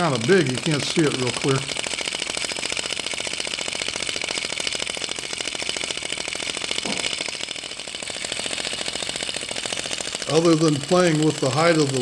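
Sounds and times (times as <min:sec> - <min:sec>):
model engine clattering: 0:00.0 - 0:12.0.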